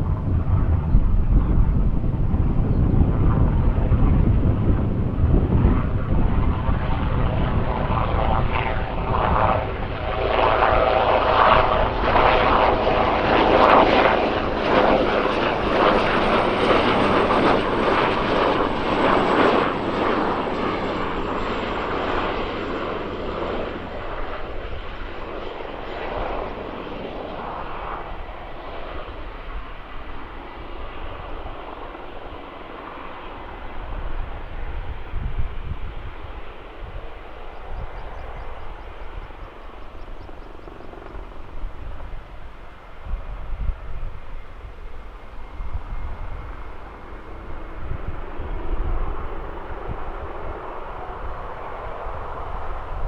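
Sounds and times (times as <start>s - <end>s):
helicopter rotor rumble: 0.0s - 53.0s
high turbine whine: 0.0s - 53.0s.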